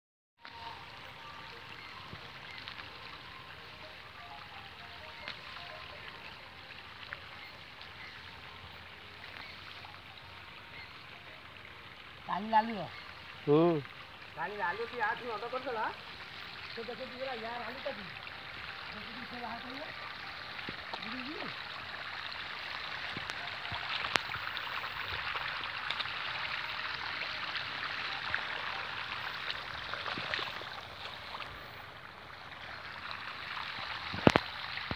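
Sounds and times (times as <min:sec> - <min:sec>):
water flowing: 0:00.4 - 0:34.9.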